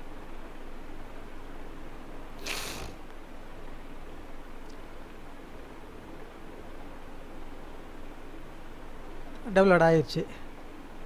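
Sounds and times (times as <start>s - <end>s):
microphone hiss and hum: 0.0s - 11.0s.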